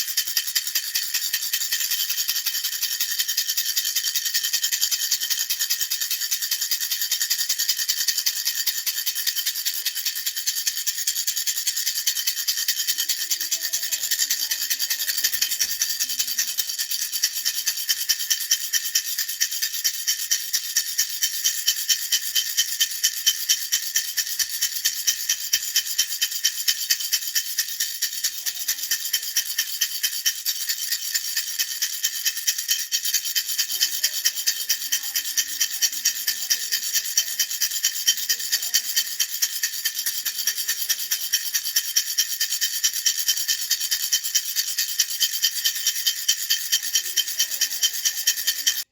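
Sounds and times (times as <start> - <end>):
baby rattle shaking: 0.0 - 48.9.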